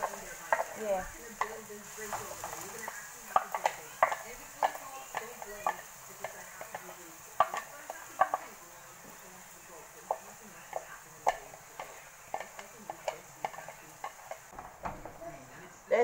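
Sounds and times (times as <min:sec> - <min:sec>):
wooden spoon knocking and scraping: 0:00.0 - 0:09.2, 0:10.0 - 0:15.3
food sizzling in hot oil: 0:00.0 - 0:16.0.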